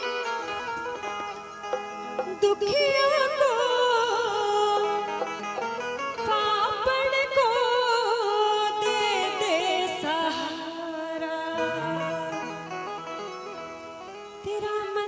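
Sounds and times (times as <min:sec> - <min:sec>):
instrumental accompaniment: 0:00.0 - 0:15.0
woman singing into microphone: 0:02.1 - 0:13.6, 0:14.3 - 0:15.0.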